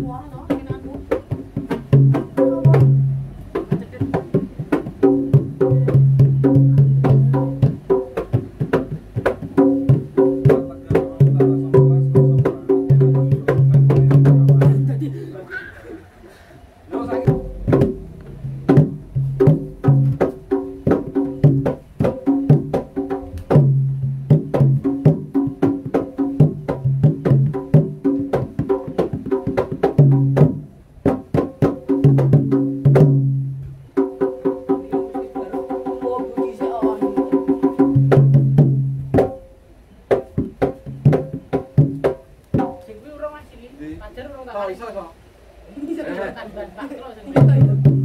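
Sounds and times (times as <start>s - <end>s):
metal percussion and drums: 0.0s - 15.1s, 16.9s - 43.0s, 47.3s - 48.0s.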